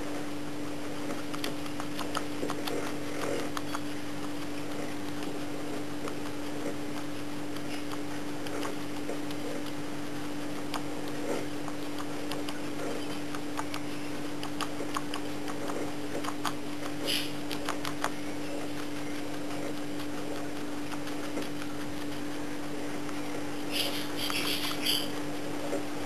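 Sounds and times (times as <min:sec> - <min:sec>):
guinea pig chewing leaves: 0:00.0 - 0:26.0
steady low hum: 0:00.0 - 0:26.0.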